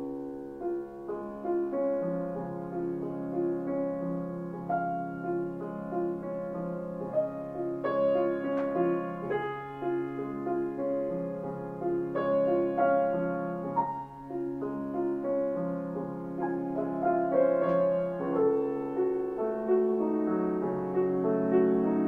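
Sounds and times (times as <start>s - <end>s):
grand piano melody: 0.0s - 22.0s.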